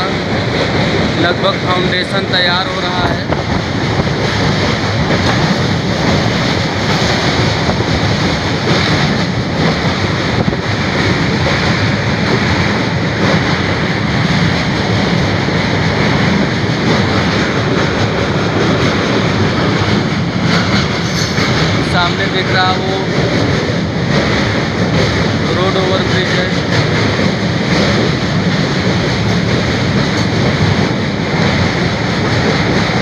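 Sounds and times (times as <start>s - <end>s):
moving train rumble: 0.0s - 33.0s
wind buffeting microphone: 0.0s - 33.0s.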